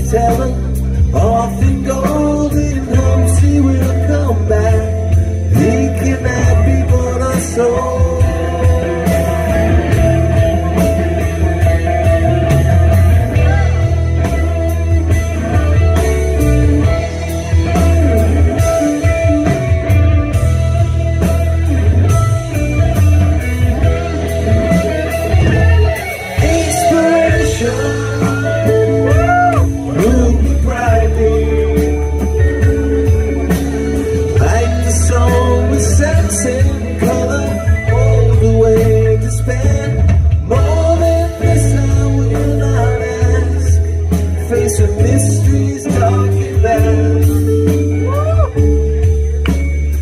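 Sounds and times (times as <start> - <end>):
bass line: 0.0 - 50.0
electric guitar: 0.0 - 50.0
keyboards: 0.0 - 50.0.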